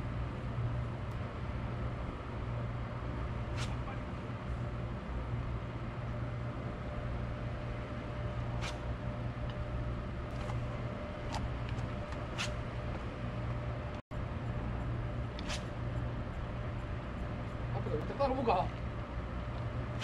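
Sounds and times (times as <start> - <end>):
faint constant hum: 0.0 - 20.0.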